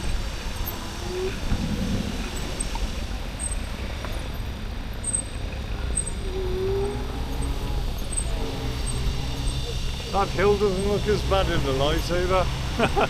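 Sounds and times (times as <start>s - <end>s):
road noise: 0.0s - 13.0s
wind rumble on microphone: 0.0s - 13.0s.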